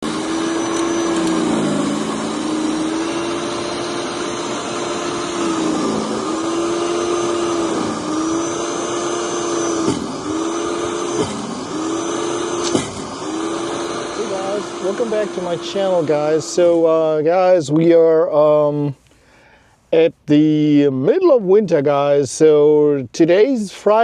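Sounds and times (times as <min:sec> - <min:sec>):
motor hum with whine: 0:00.0 - 0:21.2.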